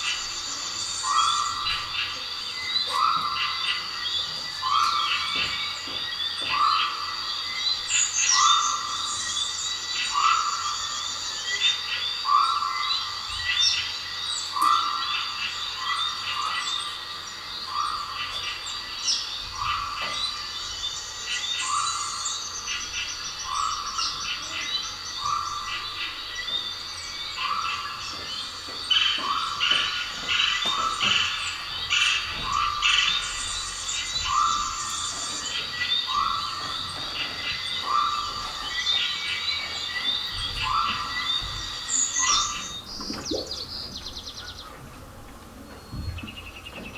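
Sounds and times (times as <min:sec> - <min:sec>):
birds chirping: 0:00.0 - 0:46.9
frogs croaking: 0:00.0 - 0:46.9.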